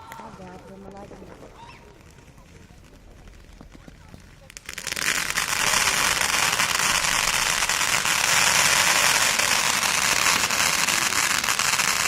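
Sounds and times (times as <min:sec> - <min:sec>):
fireworks crackling: 0:00.0 - 0:12.0
steady hiss: 0:01.9 - 0:12.0.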